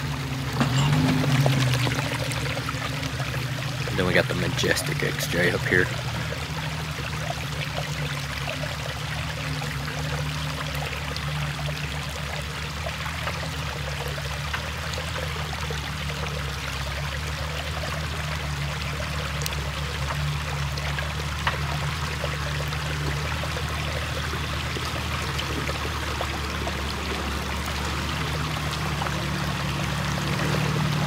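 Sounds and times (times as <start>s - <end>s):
car engine humming: 0.0s - 31.0s
water running over rocks: 0.0s - 31.0s.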